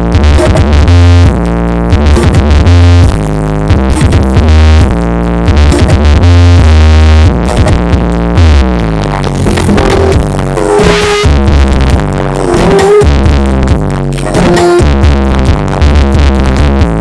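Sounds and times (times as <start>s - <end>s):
deep bass notes: 0.0s - 17.0s
electronic dance music: 0.0s - 17.0s.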